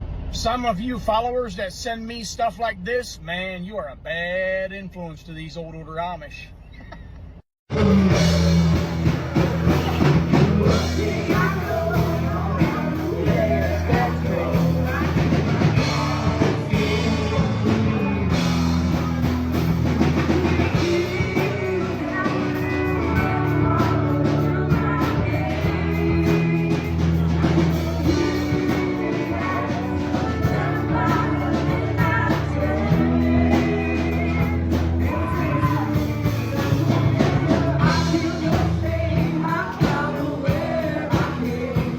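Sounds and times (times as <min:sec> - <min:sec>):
rock song with singing: 0:07.7 - 0:41.9.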